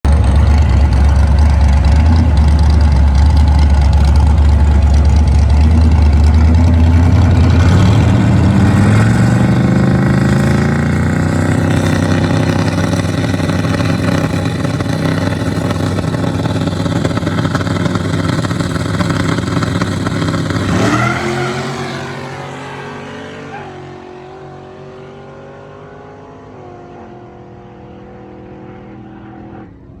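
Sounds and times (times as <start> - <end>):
racing vehicle engines: 0.0 - 30.0.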